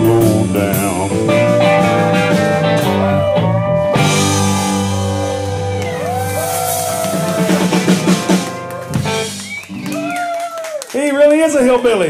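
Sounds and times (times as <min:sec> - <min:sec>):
choppy band hits: 0:00.0 - 0:10.1
country band playing: 0:00.0 - 0:12.0.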